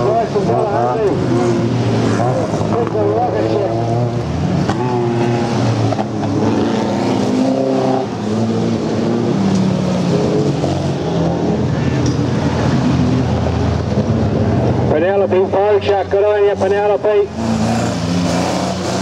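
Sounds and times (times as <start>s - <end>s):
off-road vehicle engines revving past: 0.0s - 19.0s.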